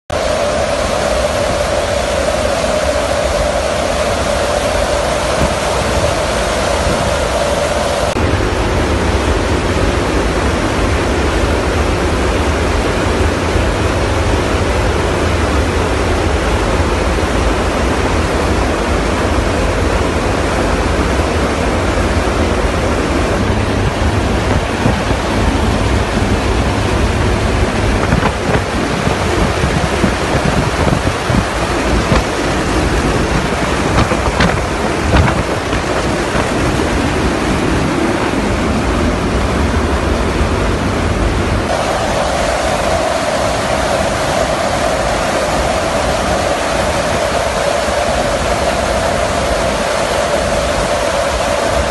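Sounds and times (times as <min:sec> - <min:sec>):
roar of rushing air and engines: 0:00.1 - 0:51.9
wind buffeting microphone: 0:00.1 - 0:51.9.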